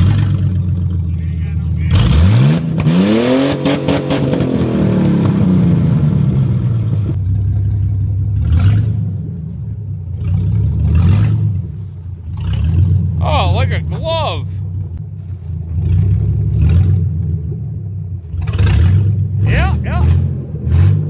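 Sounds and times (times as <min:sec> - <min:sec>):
truck engine revving and idling: 0:00.0 - 0:21.0.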